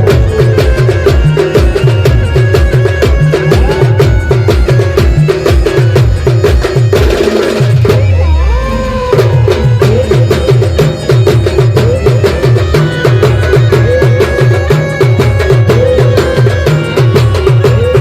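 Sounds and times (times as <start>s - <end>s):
fast bass drum beat: 0.0s - 8.2s, 9.0s - 18.0s
folk band music: 0.0s - 18.0s
sliding lead melody: 0.0s - 18.0s.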